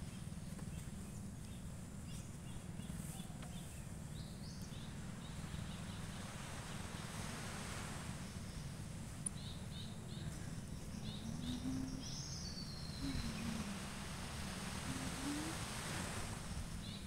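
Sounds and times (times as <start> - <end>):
birds chirping: 0.0 - 7.4, 8.0 - 17.0
steady low rumble: 0.0 - 17.0.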